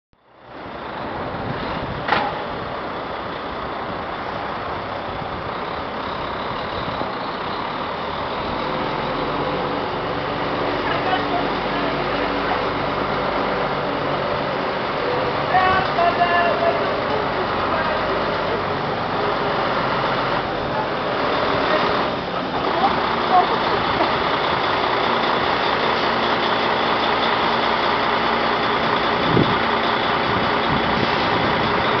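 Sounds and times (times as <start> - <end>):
diesel truck engine running: 0.2 - 32.0.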